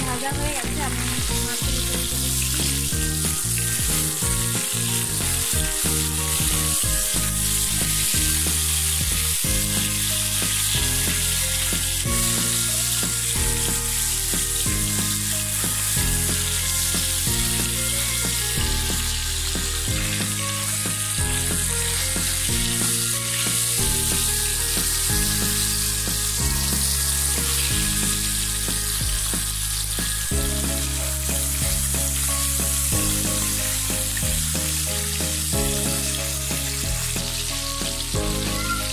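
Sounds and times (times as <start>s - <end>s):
fish sizzling in oil: 0.0s - 38.9s
music with stepping bass: 0.0s - 38.9s.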